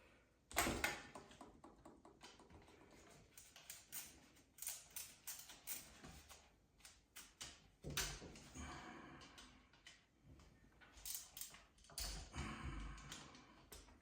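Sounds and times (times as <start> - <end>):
hands clicking and tapping on wiring: 0.5 - 8.6, 9.2 - 14.0.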